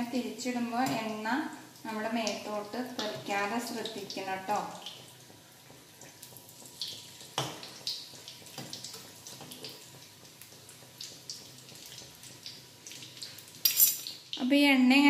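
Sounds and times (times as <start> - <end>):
meat deep-frying in hot oil: 0.0 - 15.0.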